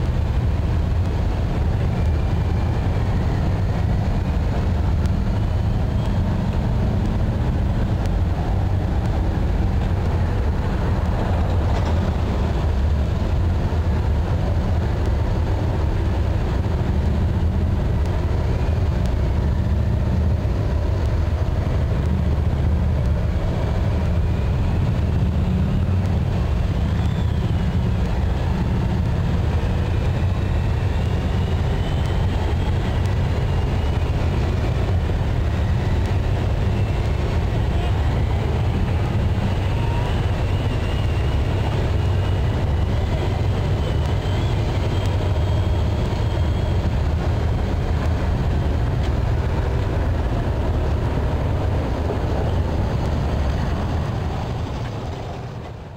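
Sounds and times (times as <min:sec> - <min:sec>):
motorcycle engines rumbling: 0:00.0 - 0:55.9.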